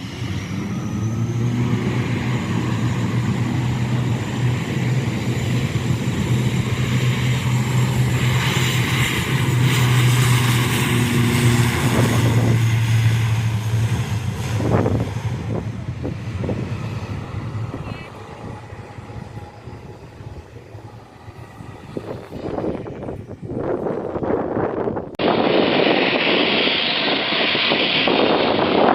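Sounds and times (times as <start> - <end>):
airliner passing: 0.0 - 28.9.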